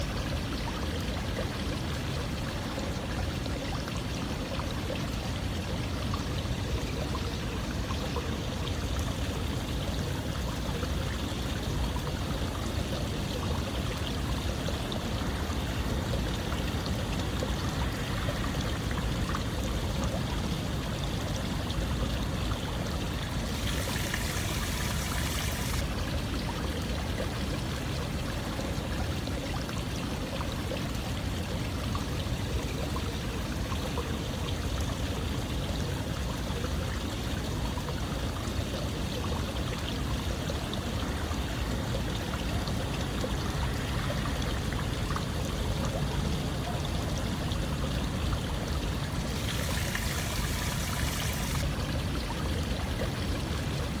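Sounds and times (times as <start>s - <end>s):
water flowing and splashing: 0.0s - 54.0s.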